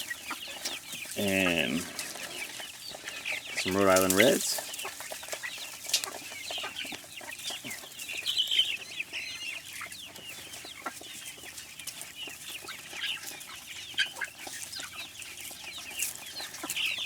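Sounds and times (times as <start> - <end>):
chickens clucking and chirping: 0.0 - 17.0.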